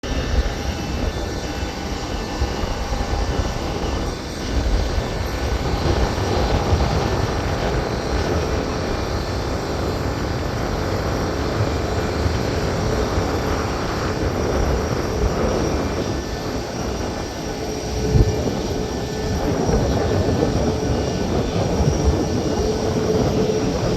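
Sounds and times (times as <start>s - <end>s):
faint whining tones: 0.0s - 23.9s
jet engines rumbling: 0.0s - 23.9s.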